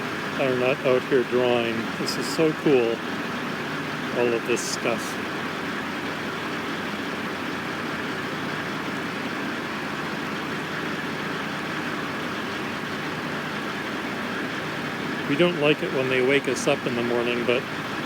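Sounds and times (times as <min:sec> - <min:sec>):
machinery engine drone: 0:00.0 - 0:18.0.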